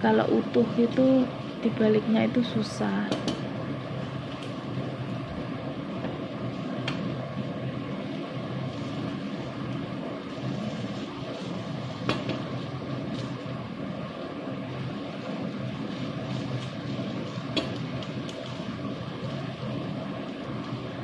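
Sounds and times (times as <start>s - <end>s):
omelette sizzling in a pan: 0.0s - 21.0s.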